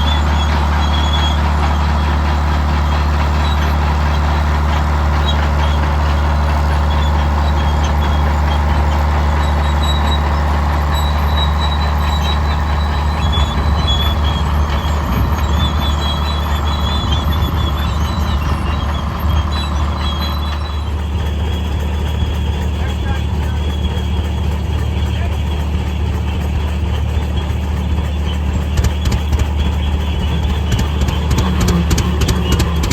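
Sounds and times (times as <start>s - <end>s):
tractor engine droning: 0.0s - 32.9s.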